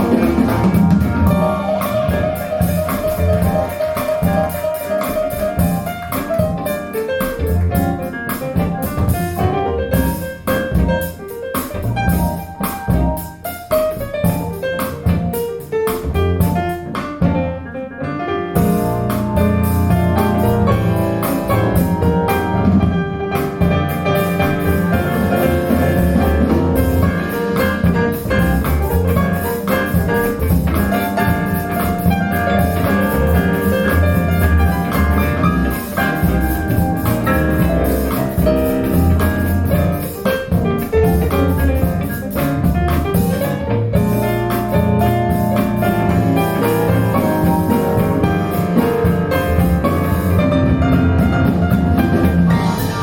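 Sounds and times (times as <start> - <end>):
instrumental music with keys and drums: 0.0 - 17.7, 18.5 - 53.0.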